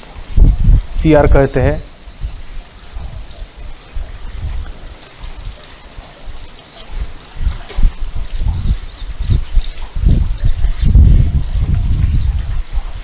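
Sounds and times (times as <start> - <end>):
muddy water splashing: 1.7 - 13.0.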